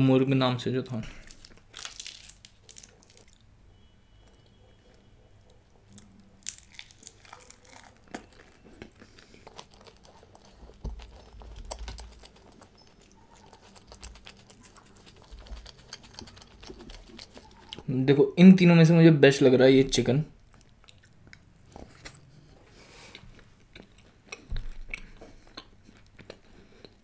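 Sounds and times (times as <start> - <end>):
close chewing with mouth clicks: 1.3 - 3.5, 4.2 - 17.9, 20.4 - 27.0.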